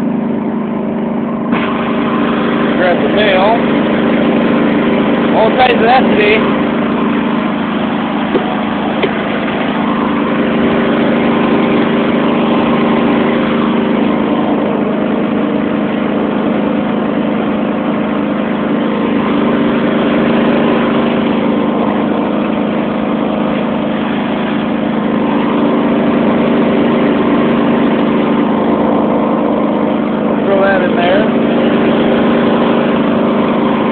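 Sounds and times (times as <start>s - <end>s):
lawn tractor engine running: 0.0s - 33.9s.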